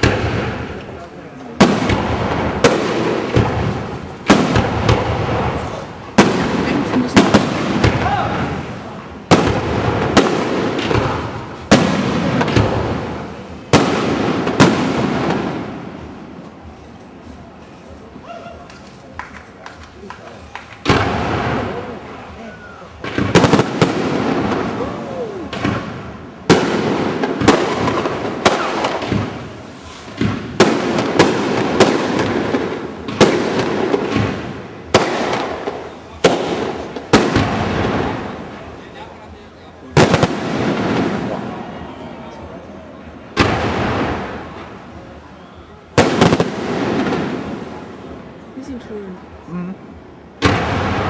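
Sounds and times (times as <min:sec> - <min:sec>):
firework bangs with rumbling echo: 0:00.0 - 0:16.4, 0:20.8 - 0:22.3, 0:22.9 - 0:39.0, 0:39.9 - 0:41.9, 0:43.1 - 0:45.2, 0:45.9 - 0:48.5, 0:50.4 - 0:51.0.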